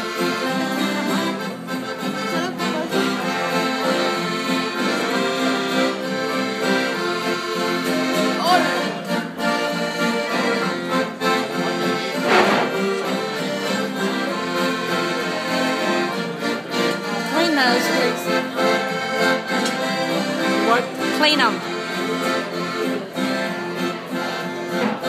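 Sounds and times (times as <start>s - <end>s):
acoustic guitar strumming: 0.0s - 25.0s
piano accordion chords: 0.0s - 25.0s.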